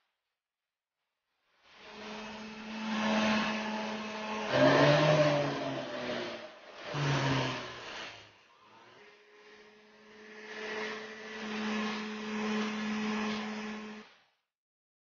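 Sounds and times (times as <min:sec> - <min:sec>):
rotary tool motor running: 0:01.8 - 0:14.1.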